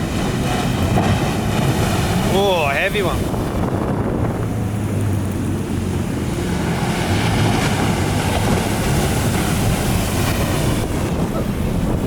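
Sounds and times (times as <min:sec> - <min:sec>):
low rumble: 0:00.0 - 0:12.0
ocean surf: 0:00.0 - 0:12.0
wind buffeting the microphone: 0:00.0 - 0:12.0.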